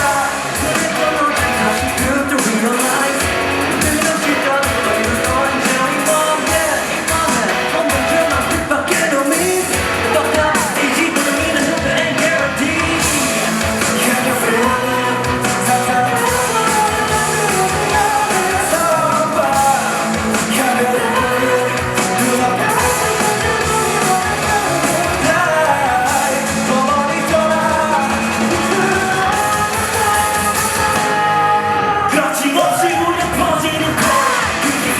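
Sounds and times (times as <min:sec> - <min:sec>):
live rock band: 0:00.0 - 0:34.9
person singing: 0:00.0 - 0:34.9.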